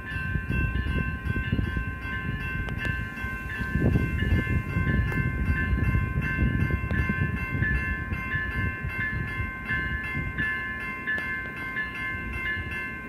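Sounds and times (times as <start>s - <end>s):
railroad crossing bells ringing: 0.0s - 13.0s.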